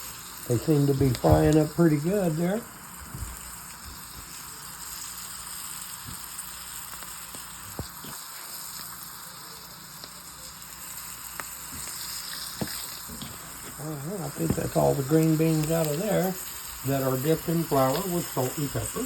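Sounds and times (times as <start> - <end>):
beans sizzling in hot oil: 0.0 - 19.0.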